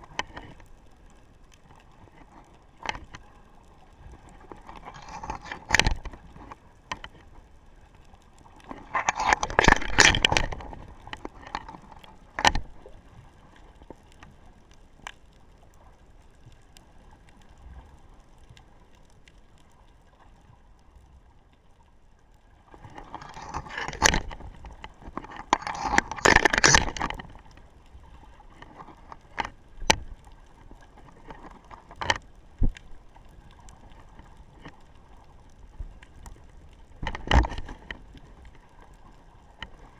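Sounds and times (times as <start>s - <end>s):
low steady underwater hiss: 0.0s - 39.9s.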